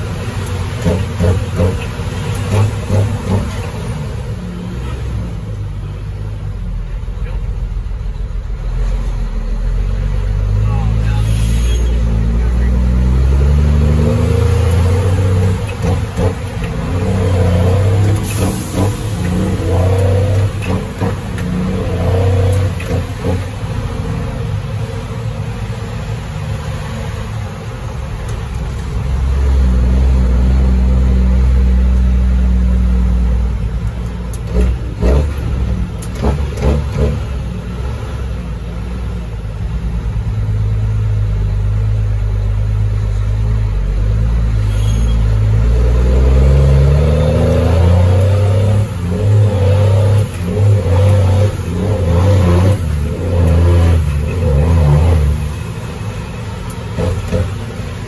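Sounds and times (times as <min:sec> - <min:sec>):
diesel truck engine: 0:00.0 - 0:58.0.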